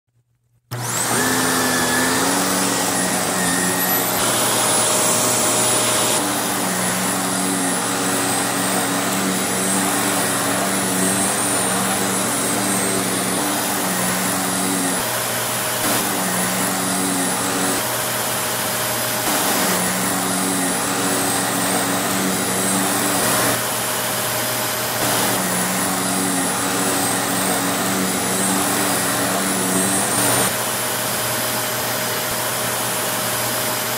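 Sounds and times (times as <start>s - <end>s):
vacuum cleaner running: 0.7s - 33.9s.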